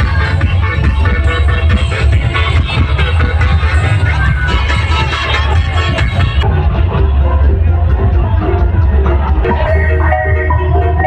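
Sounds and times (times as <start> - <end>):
electronic dance music with heavy bass: 0.0 - 11.0.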